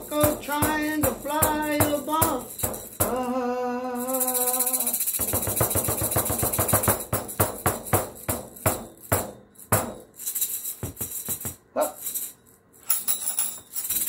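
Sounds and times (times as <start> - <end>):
maraca rattling: 0.0 - 14.0
tambourine jingles: 0.0 - 14.0.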